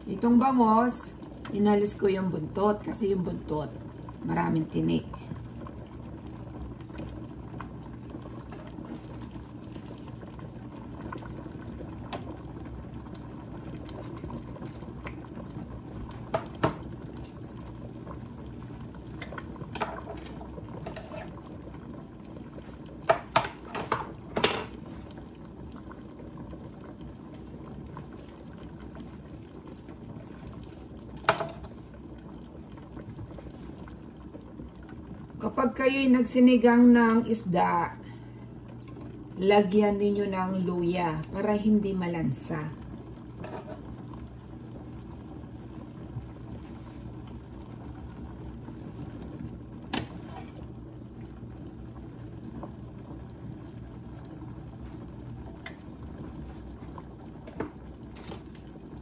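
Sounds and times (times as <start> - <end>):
broth boiling in a pot: 0.0 - 59.0.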